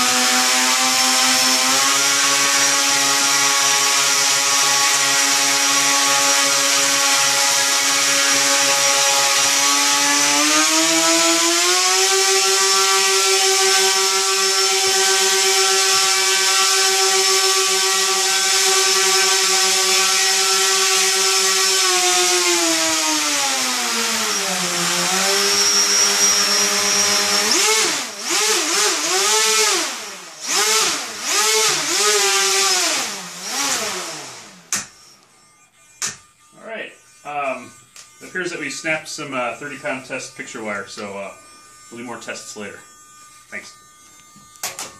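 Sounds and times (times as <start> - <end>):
electric motor spinning propeller: 0.0 - 44.9.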